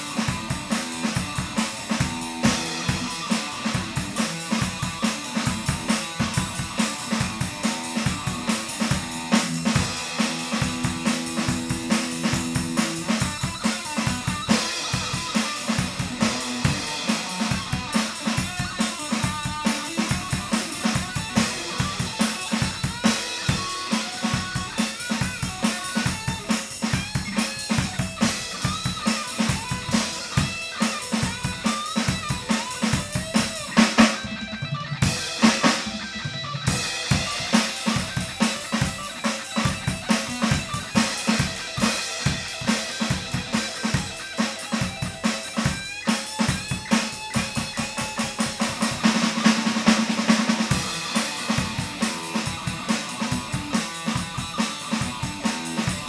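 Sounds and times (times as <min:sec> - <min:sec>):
band music: 0:00.0 - 0:56.0
bass drum and snare beat: 0:00.0 - 0:56.0.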